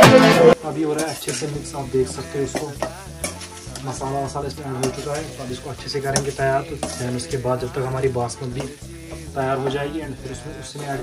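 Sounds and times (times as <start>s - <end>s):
frying sizzle: 0.0s - 11.0s
song playing: 0.0s - 11.0s
metal spoon scraping a pot: 0.9s - 9.8s.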